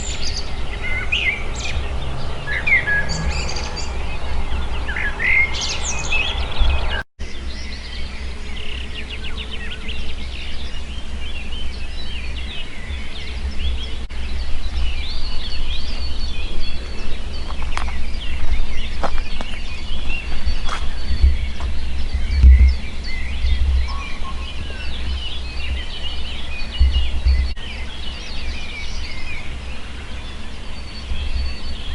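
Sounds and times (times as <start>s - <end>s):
small birds chirping and trilling: 0.0s - 31.9s
steady low rumble: 0.0s - 31.9s.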